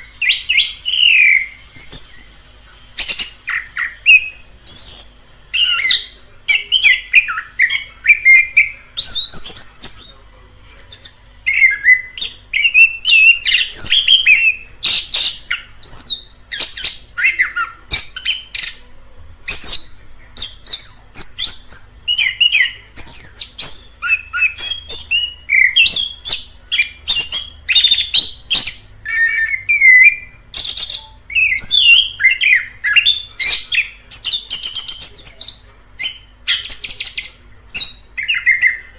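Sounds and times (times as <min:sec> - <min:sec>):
thrush singing whistled phrases: 0:00.0 - 0:18.8, 0:19.5 - 0:38.9.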